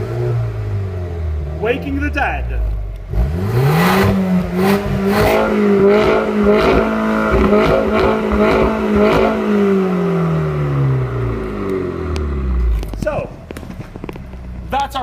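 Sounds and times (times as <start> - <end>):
car engine revving: 0.0 - 15.0
exhaust cracks: 0.0 - 15.0.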